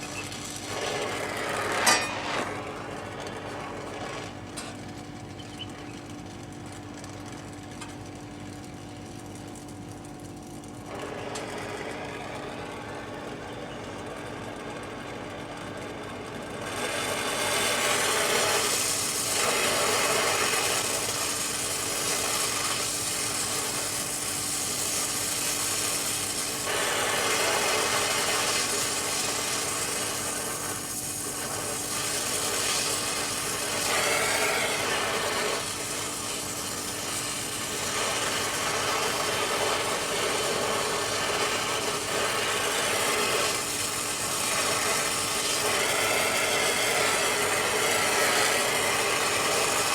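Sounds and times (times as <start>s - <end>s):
steady machine hum: 0.0s - 49.9s.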